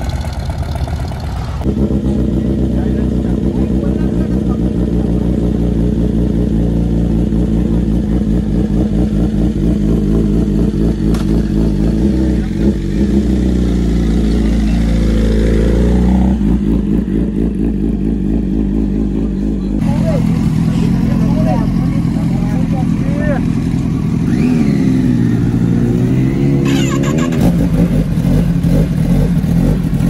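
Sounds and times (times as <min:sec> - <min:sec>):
motorcycle engines idling: 0:00.0 - 0:30.0.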